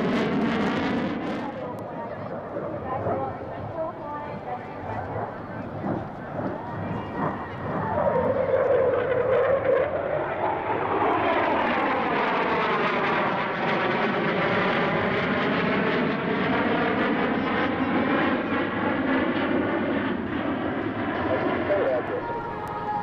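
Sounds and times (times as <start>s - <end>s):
jet roar flying past: 0.0s - 23.0s.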